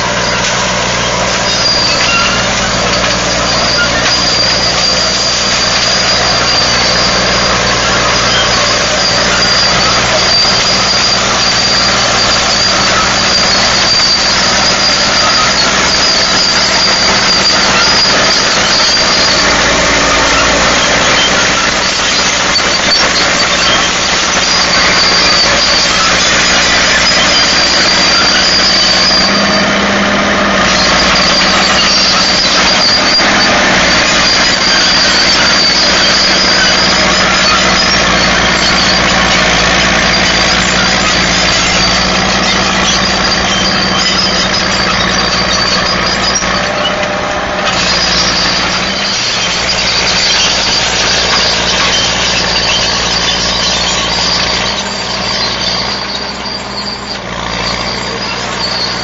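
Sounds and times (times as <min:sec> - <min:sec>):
diesel engine running: 0:00.0 - 0:59.0
steady high squeal: 0:00.0 - 0:59.0.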